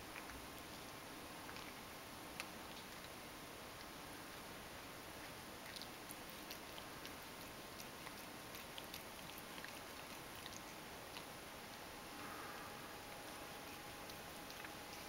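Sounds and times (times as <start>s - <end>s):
cat licking fur: 0.0s - 15.0s
steady hiss: 0.0s - 15.0s.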